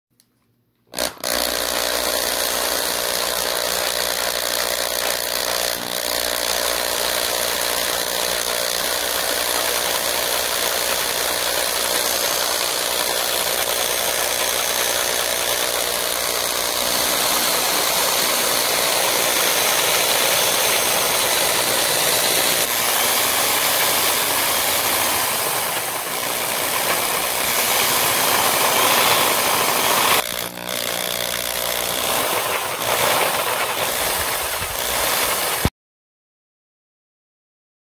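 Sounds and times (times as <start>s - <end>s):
drill spinning model engine whir: 0.9s - 35.7s.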